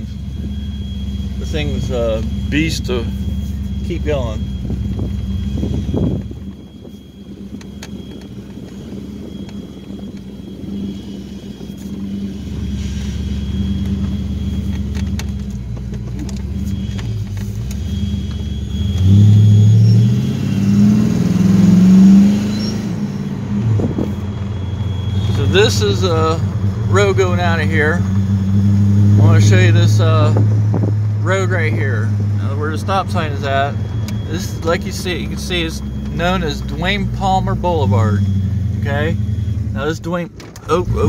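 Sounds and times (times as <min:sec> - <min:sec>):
car engine running and accelerating: 0:00.0 - 0:41.0.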